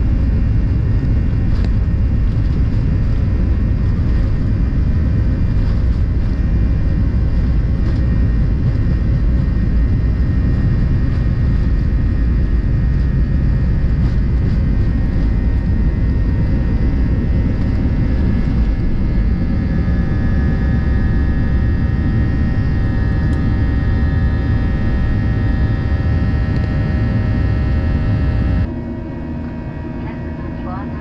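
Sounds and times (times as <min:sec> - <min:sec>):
constant whining tones: 0:00.0 - 0:31.0
jet engine cabin rumble: 0:00.0 - 0:31.0.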